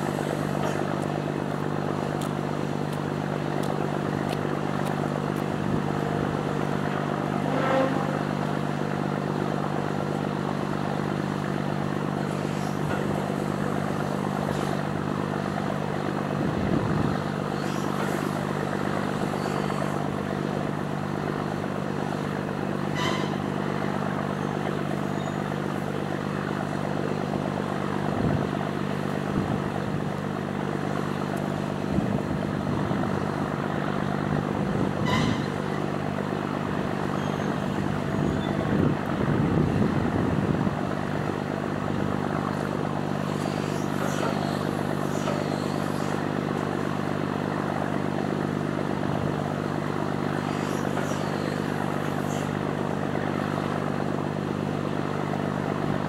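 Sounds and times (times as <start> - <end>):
ship engine low drone: 0.0 - 56.0.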